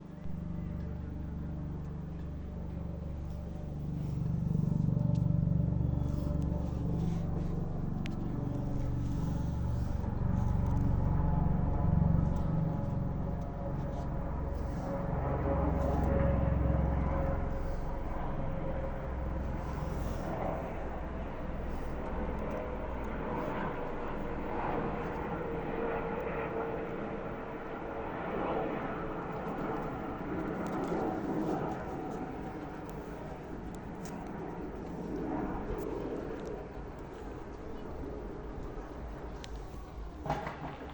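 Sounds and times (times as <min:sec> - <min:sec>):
helicopter rotor beat: 0:00.0 - 0:40.9
helicopter whine: 0:00.0 - 0:40.9.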